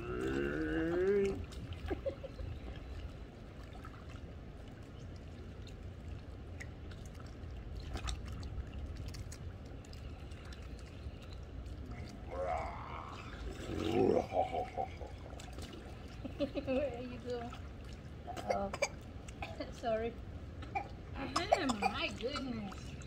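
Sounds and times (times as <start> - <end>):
low steady rumble: 0.0 - 23.0
water splashing in a pool: 0.0 - 23.0.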